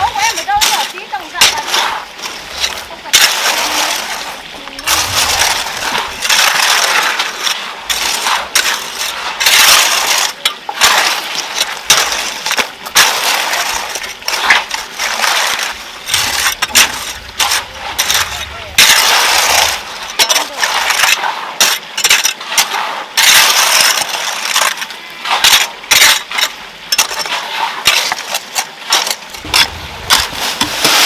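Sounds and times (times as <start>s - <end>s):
stones scraping and clinking: 0.0s - 31.0s.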